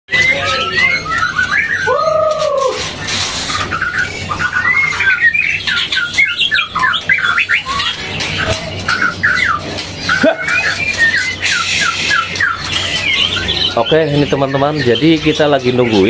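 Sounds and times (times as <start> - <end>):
songbirds chirping and whistling: 0.1 - 16.0
lower arched bird call: 0.3 - 2.8, 3.5 - 15.1.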